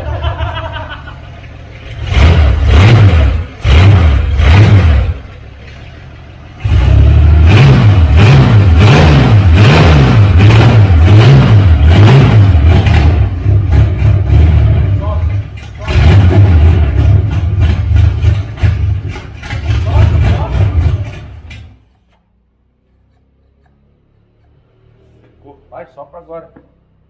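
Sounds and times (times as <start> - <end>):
car engine starting and running: 0.0 - 27.0.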